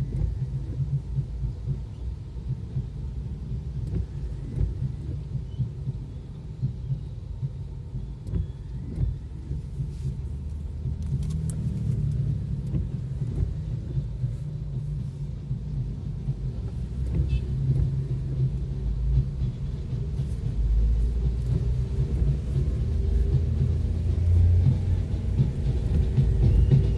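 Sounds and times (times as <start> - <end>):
vehicle driving rumble: 0.0 - 26.9.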